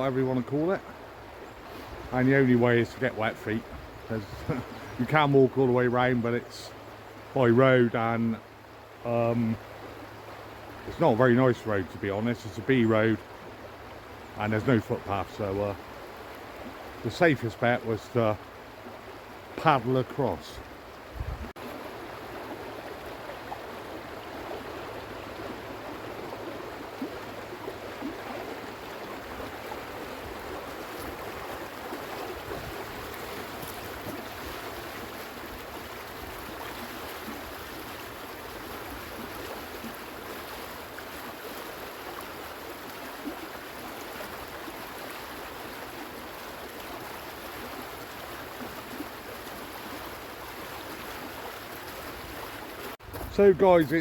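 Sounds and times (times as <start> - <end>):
shallow stream running: 0.0 - 54.0.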